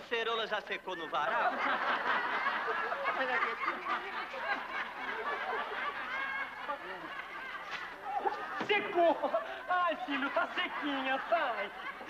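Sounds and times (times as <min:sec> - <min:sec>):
audience laughing: 0:01.2 - 0:12.0.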